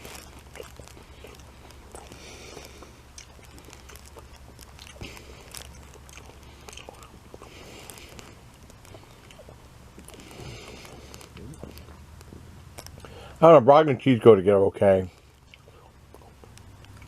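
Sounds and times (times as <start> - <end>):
person chewing crunchy food: 0.0 - 13.4, 15.1 - 17.0
low steady hum: 0.0 - 17.0.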